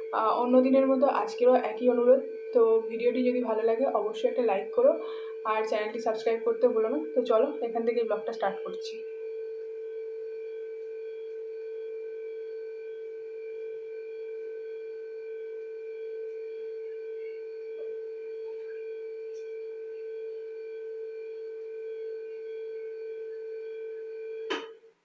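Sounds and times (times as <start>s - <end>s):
steady hum of constant tones: 0.0s - 25.0s.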